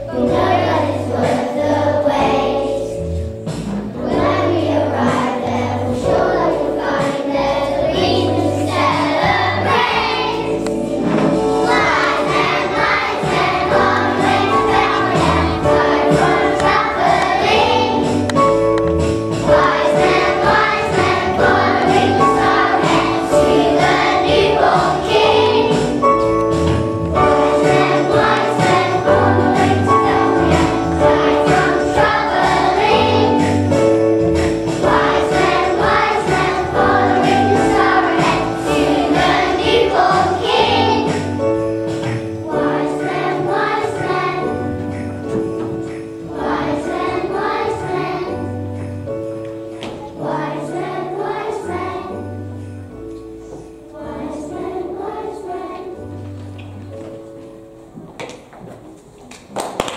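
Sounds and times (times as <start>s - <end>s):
children singing: 0.0s - 3.1s, 4.0s - 18.4s, 19.4s - 26.2s, 27.2s - 41.7s, 42.3s - 48.8s, 49.8s - 52.4s, 53.5s - 56.2s
instrumental accompaniment: 0.0s - 59.0s.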